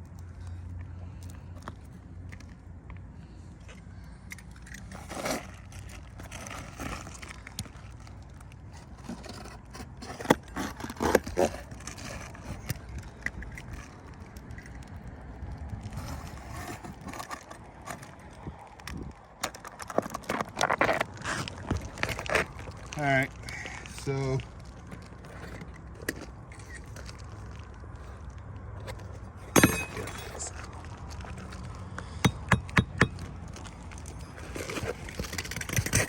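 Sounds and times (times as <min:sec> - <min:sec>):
roofing shingles scraping and crackling: 0:04.8 - 0:32.2, 0:33.1 - 0:36.0.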